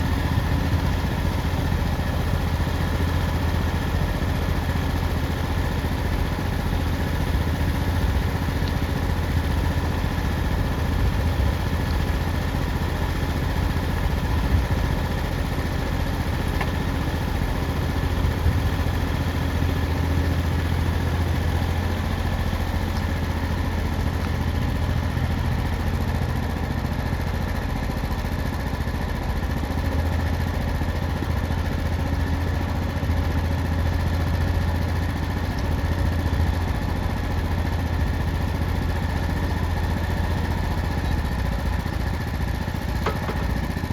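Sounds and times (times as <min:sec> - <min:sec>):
sawmill engine humming: 0:00.0 - 0:43.9.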